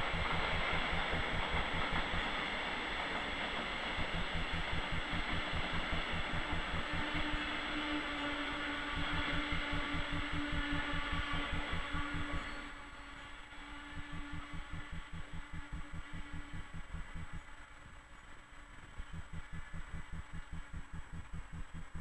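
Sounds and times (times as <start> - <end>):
low throbbing: 0.0 - 12.7, 13.8 - 17.6, 18.9 - 22.0
electric locomotive humming: 0.0 - 22.0
steady train tone: 0.0 - 22.0.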